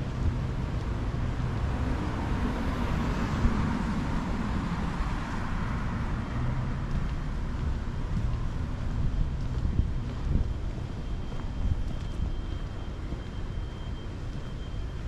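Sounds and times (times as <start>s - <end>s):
low engine rumble: 0.0s - 15.0s
road noise: 0.0s - 15.0s.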